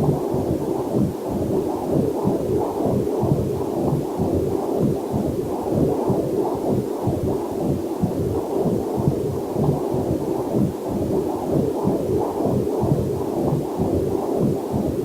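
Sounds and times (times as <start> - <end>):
whooshing heartbeat pulse: 0.0 - 15.0.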